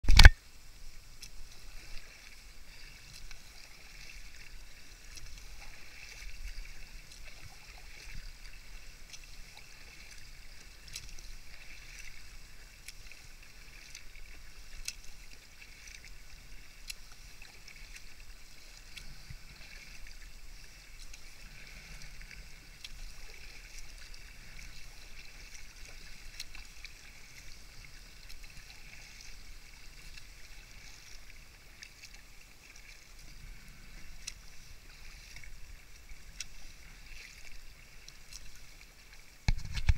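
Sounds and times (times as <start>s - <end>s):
paddle splashing and dripping: 0.0s - 39.9s
small ticks: 1.1s - 2.3s, 2.9s - 31.2s, 32.8s - 38.8s.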